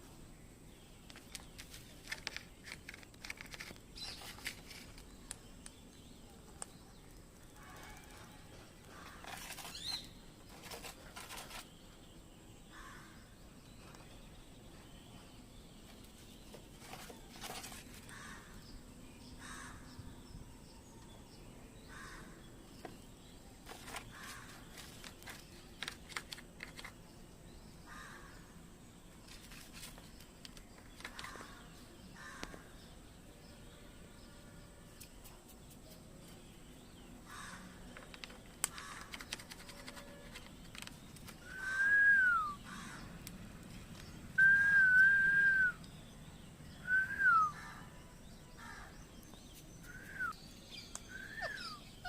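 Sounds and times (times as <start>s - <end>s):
faint harsh bird calls: 0.0s - 52.0s.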